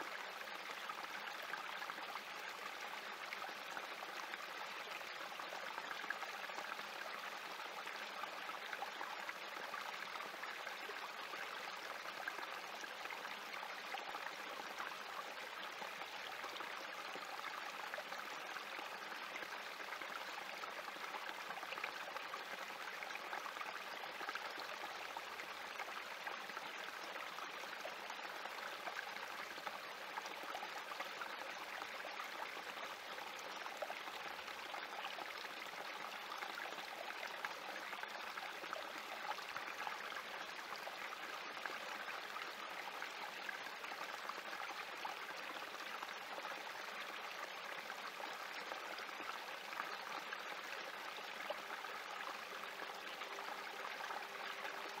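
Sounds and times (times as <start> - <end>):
creek trickling over rocks: 0.0 - 55.0.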